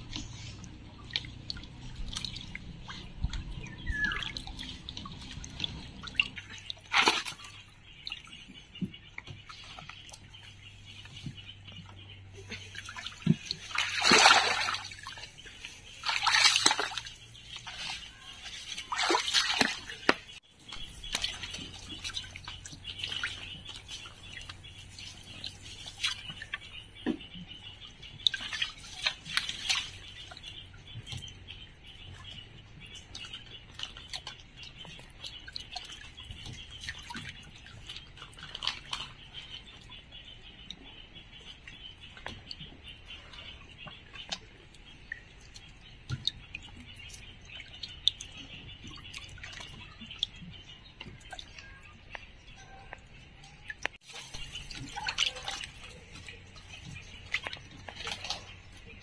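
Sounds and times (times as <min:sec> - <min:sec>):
water dripping: 0:00.0 - 0:59.0
water splashing: 0:00.0 - 0:59.0.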